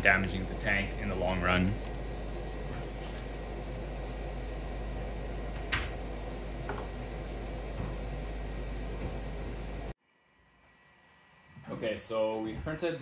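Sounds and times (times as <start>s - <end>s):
fan-like hum: 0.0s - 13.0s.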